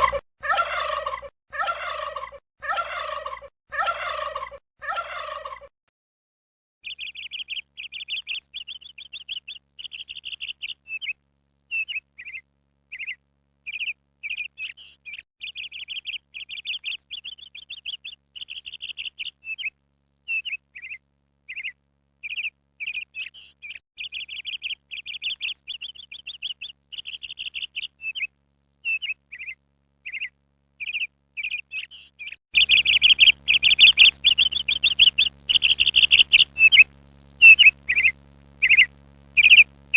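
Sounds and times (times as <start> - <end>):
small birds chirping: 6.8 - 39.8.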